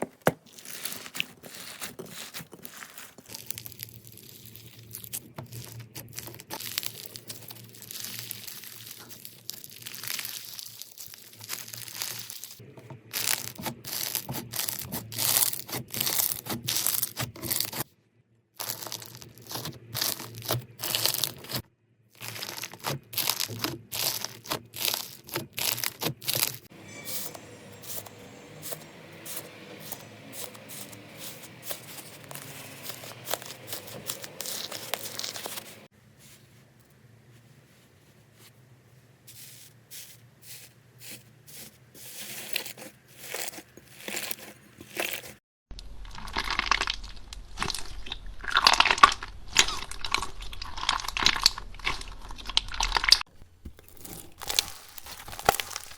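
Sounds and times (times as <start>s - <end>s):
slime crackling and popping: 0.4s - 17.8s, 18.6s - 21.6s, 22.2s - 26.7s, 28.6s - 35.8s, 42.2s - 55.9s.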